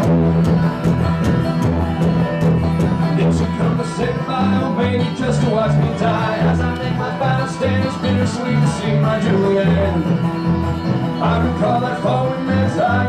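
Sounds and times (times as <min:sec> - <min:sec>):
deep bass notes: 0:00.0 - 0:13.0
picked guitar notes: 0:00.0 - 0:13.0.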